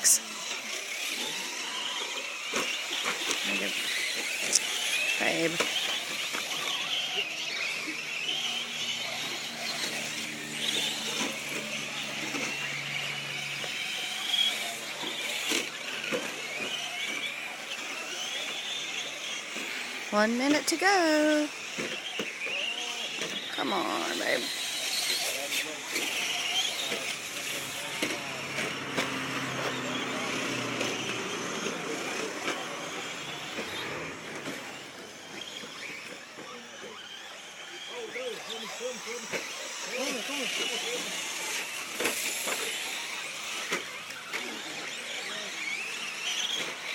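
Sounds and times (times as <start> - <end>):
rc truck motors whining: 0.0 - 46.9.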